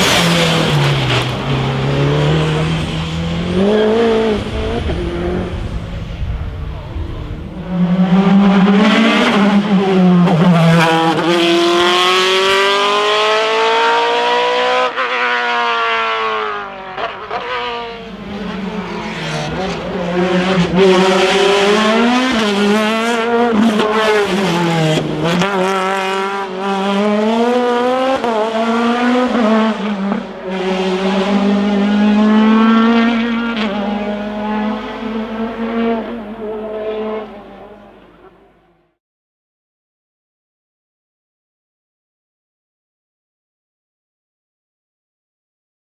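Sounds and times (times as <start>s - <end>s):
racing car engine revving: 0.0s - 38.7s.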